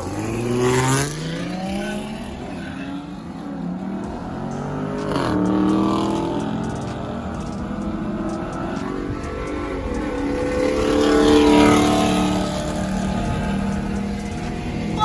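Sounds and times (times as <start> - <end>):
burst of engine revs: 0.0 - 15.0
car engine accelerating: 0.0 - 15.0.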